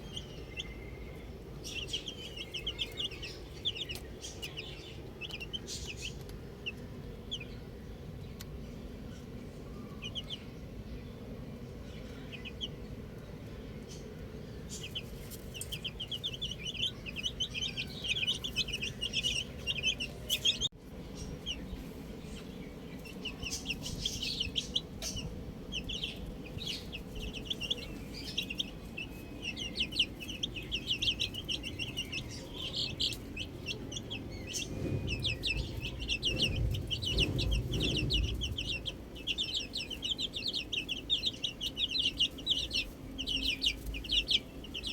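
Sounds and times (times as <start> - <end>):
baby chicks peeping: 0.0 - 44.9
low rumble: 0.0 - 44.9.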